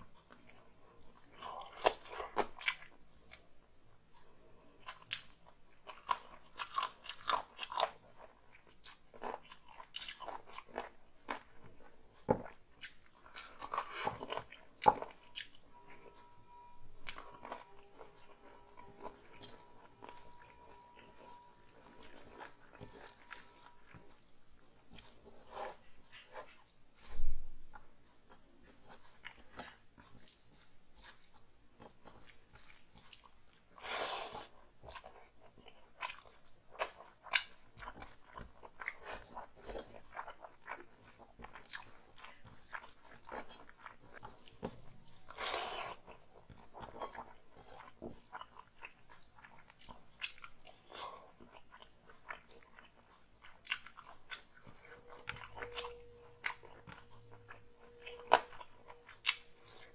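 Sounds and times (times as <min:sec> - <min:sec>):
person chewing food wetly: 0:00.0 - 0:59.9.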